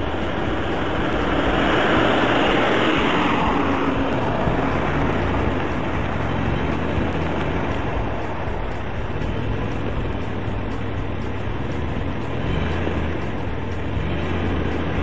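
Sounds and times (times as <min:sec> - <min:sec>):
steady low rumble: 0:00.0 - 0:15.0
vehicle driving past: 0:00.0 - 0:15.0.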